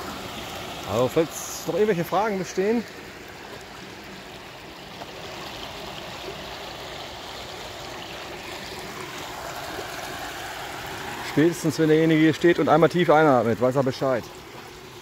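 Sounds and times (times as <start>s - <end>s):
sewage water flowing and trickling: 0.0s - 15.0s.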